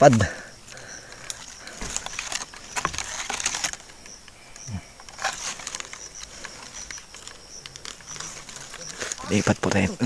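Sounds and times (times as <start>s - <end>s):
rustling through grass and leaves: 0.0s - 10.0s.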